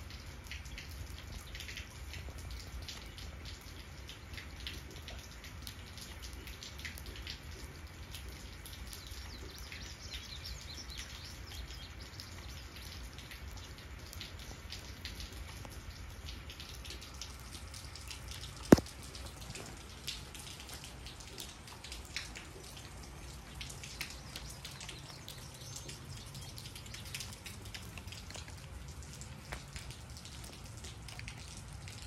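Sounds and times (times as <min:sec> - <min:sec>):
raindrops ticking on wet ground: 0:00.0 - 0:32.0.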